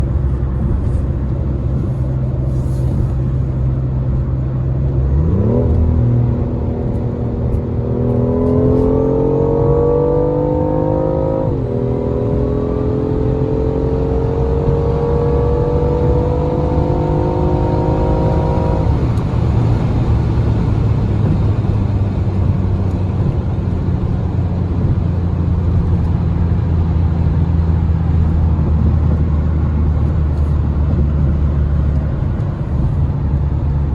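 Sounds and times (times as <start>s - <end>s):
car engine accelerating hard: 0.0s - 33.9s
road and wind noise: 0.0s - 33.9s.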